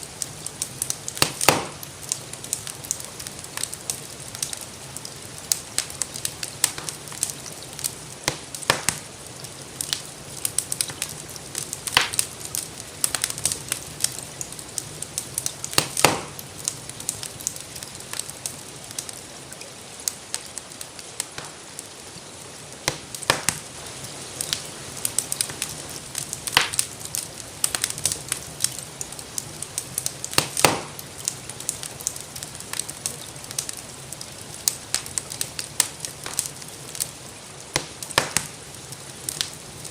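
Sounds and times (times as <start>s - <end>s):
gentle rainfall hiss: 0.0s - 39.9s
wood fire crackling: 0.0s - 39.9s.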